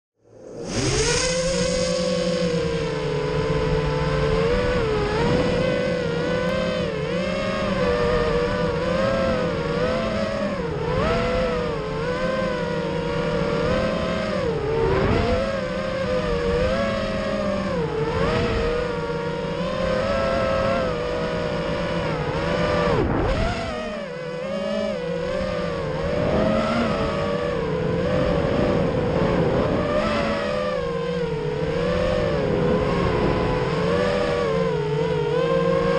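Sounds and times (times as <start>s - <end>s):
drone motors whining: 0.2s - 35.9s.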